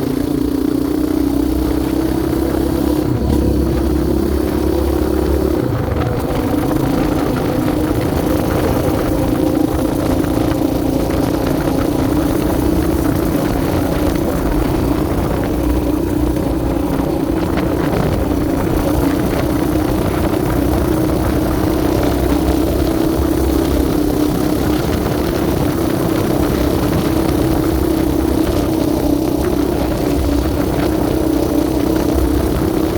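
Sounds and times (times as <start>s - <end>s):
quad engine running steadily: 0.0s - 32.9s.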